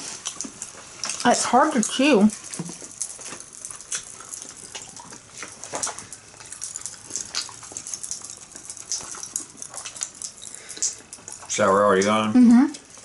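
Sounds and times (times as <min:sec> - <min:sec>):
mouth chewing candy: 0:00.0 - 0:13.0.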